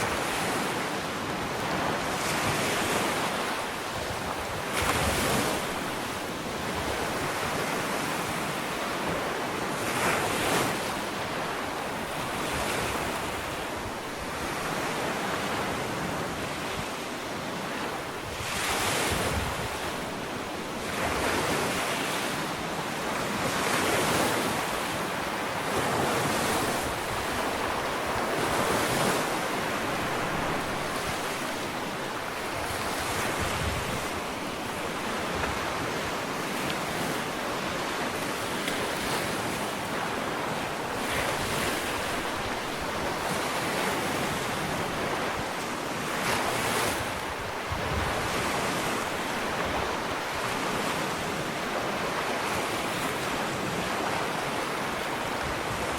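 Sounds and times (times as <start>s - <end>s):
ocean waves on sandy beach: 0.0s - 55.9s.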